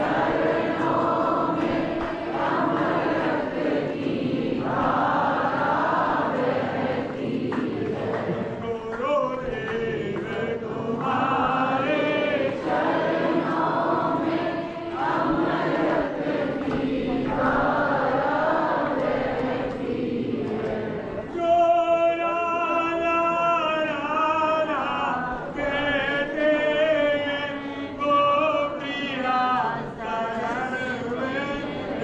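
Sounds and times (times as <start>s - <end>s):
crowd singing a devotional chant: 0.0s - 32.0s.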